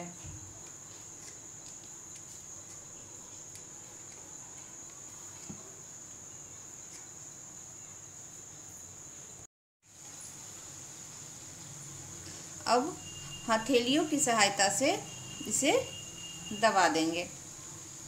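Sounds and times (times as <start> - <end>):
crickets trilling: 0.0 - 9.5, 10.1 - 18.0.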